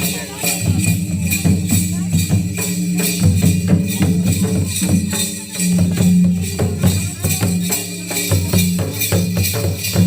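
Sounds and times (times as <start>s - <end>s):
bright jingling: 0.0s - 10.0s
percussion beating a rhythm: 0.0s - 10.0s.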